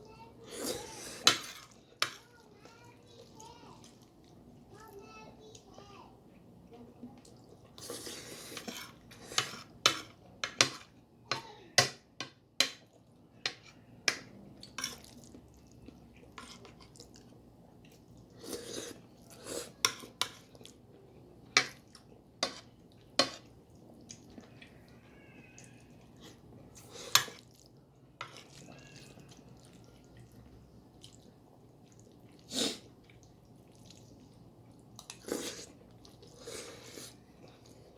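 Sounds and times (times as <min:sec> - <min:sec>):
faint chewing: 0:00.4 - 0:10.2, 0:12.8 - 0:37.9.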